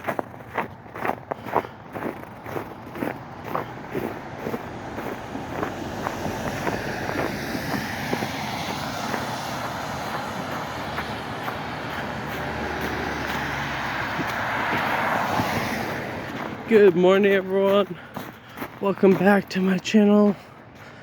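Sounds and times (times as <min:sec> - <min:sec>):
footsteps: 0:00.0 - 0:21.0
vehicle passing on road: 0:00.0 - 0:21.0.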